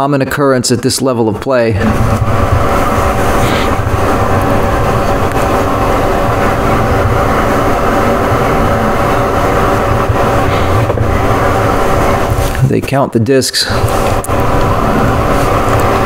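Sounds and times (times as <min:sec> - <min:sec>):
loud mechanical drone: 0:01.6 - 0:12.9, 0:13.6 - 0:16.0.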